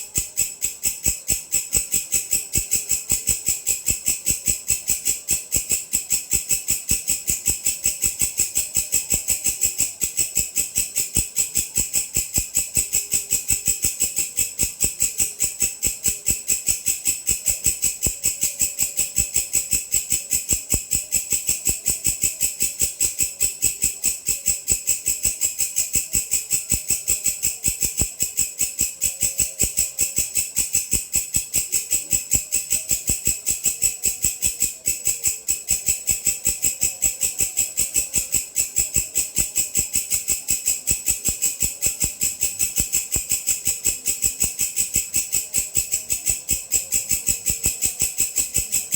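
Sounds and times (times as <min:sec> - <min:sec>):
grasshopper rattling chirps: 0:00.0 - 0:48.9.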